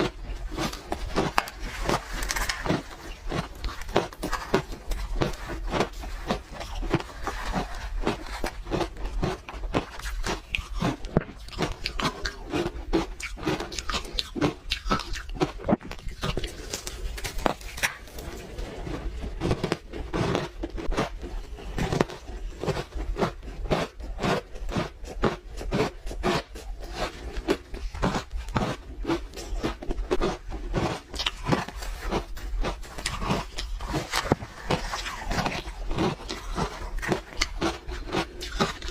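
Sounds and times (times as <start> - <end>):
ice crunching and cracking: 0.0 - 38.9.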